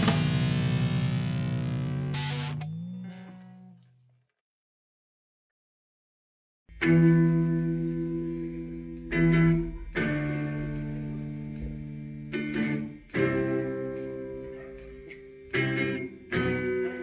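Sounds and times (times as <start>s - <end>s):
guitar chords ringing out: 0.0s - 4.0s, 6.7s - 17.0s.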